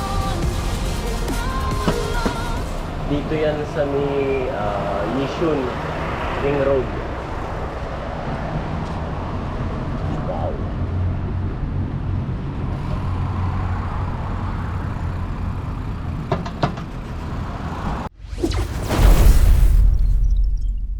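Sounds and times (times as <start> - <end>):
road traffic rumble: 0.0 - 18.2.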